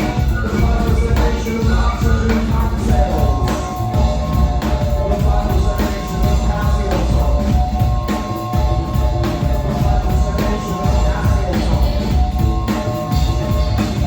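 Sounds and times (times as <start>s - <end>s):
drums: 0.0s - 14.0s
held keyboard sampler notes: 0.0s - 14.0s
live rock band playing: 0.0s - 14.0s.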